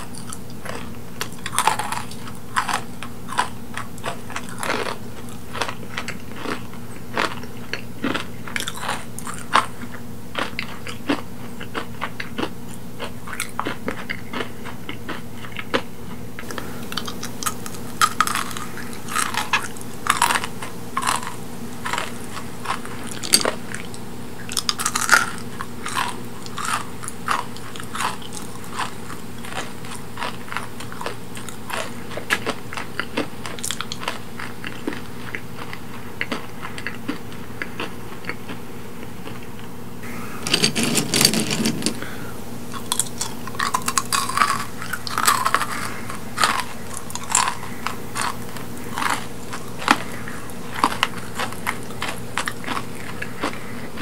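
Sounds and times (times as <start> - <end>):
chewing crunchy candy: 0.0 - 54.0.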